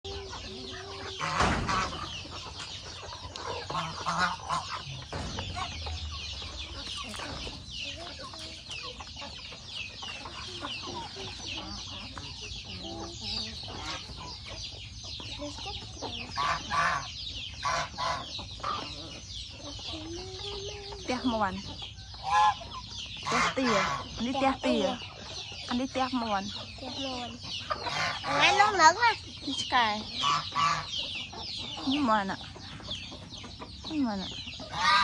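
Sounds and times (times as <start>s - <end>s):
chickens clucking: 0.0s - 35.0s
high chirping chatter: 0.0s - 35.0s.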